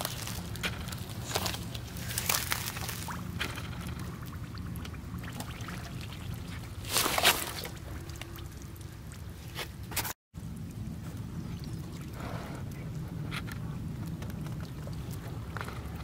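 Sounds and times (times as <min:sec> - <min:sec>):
low steady rumble: 0:00.0 - 0:16.0
muddy water sloshing: 0:00.0 - 0:16.0.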